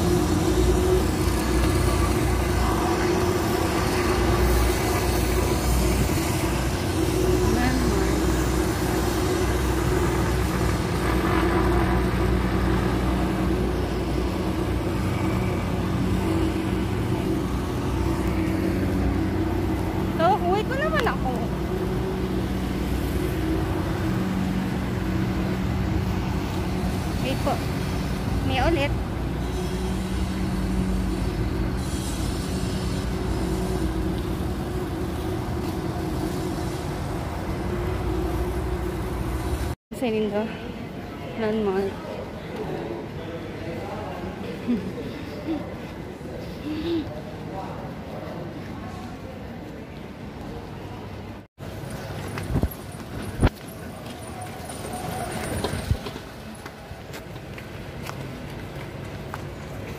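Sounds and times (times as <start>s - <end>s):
road traffic hum: 0.0s - 59.9s.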